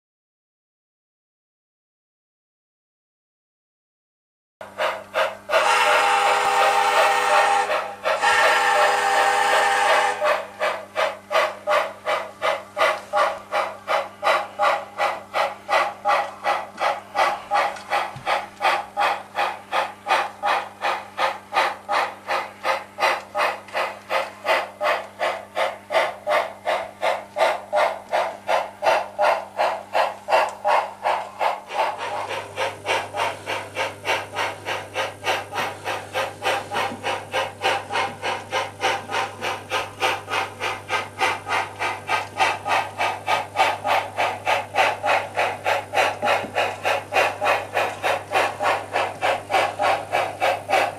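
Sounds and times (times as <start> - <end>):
model steam locomotive chuffs: 4.6 - 50.9.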